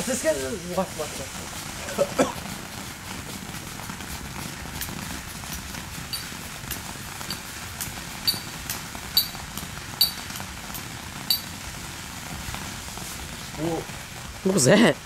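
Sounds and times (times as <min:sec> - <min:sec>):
firework popping: 0:00.0 - 0:15.0.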